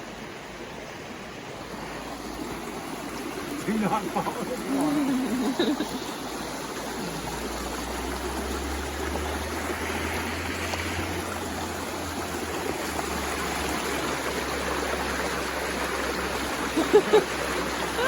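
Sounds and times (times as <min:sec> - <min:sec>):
stream flowing: 0:00.0 - 0:18.0.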